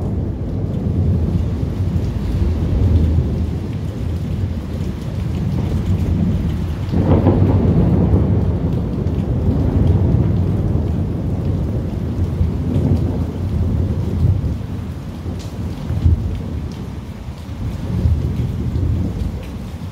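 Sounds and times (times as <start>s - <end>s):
steady rain: 0.0s - 19.9s
thunder rumbling: 0.0s - 19.9s.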